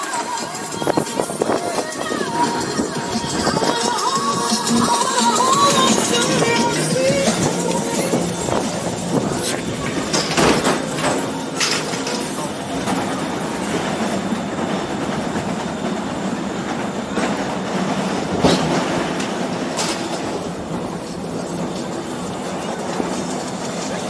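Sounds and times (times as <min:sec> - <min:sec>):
chairlift machinery running: 0:00.1 - 0:24.0
chairs and rollers clattering: 0:00.6 - 0:24.0.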